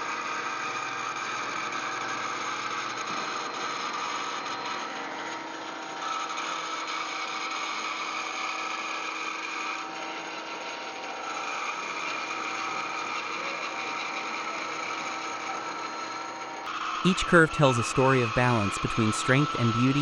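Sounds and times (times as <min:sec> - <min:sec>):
woodworking power tool cutting: 0:00.0 - 0:20.0.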